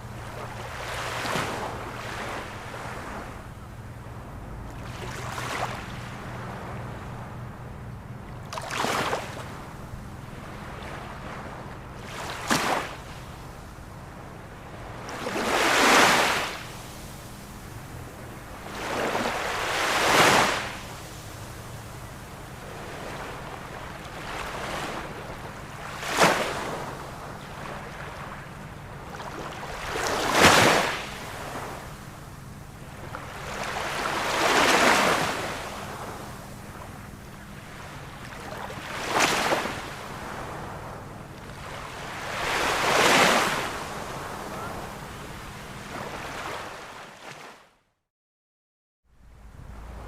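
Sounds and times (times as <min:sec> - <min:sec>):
ocean waves breaking: 0:00.0 - 0:47.6.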